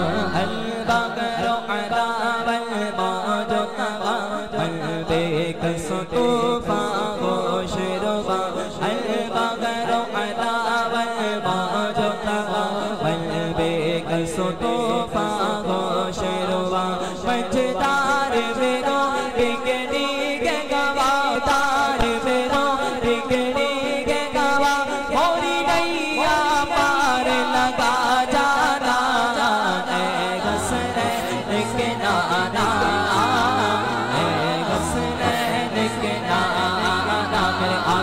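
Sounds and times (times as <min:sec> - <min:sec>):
man singing unaccompanied: 0:00.0 - 0:38.0.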